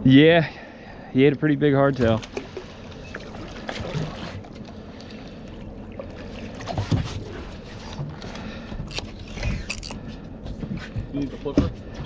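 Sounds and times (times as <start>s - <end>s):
boat engine hum: 0.0s - 12.0s
water: 0.0s - 12.0s
wind: 0.0s - 12.0s.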